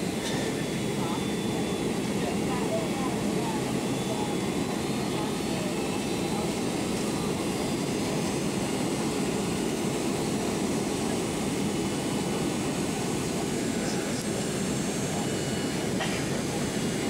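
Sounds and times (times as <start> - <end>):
jet engine cabin noise: 0.0 - 17.0.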